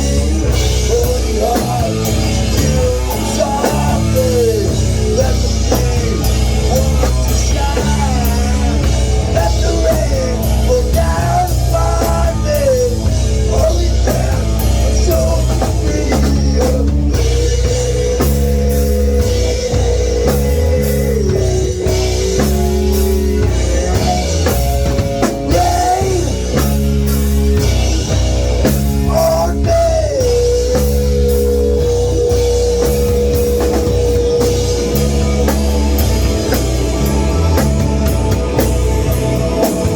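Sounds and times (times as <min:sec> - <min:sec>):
heavy rock band playing: 0:00.0 - 0:39.9.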